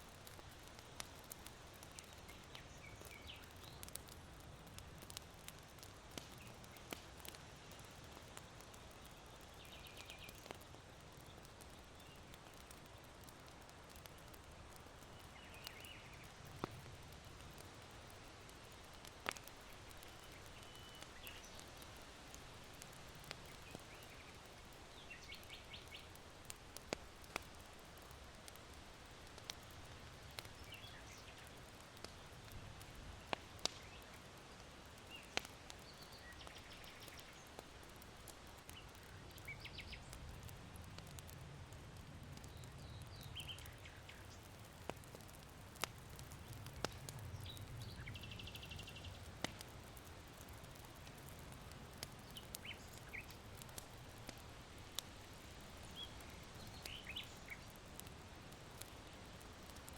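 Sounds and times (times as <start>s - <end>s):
charcoal fire crackling: 0.0s - 59.9s
fire popping: 0.0s - 59.9s
small birds chirping: 0.2s - 16.9s, 18.7s - 28.1s, 29.4s - 41.4s, 42.2s - 58.1s.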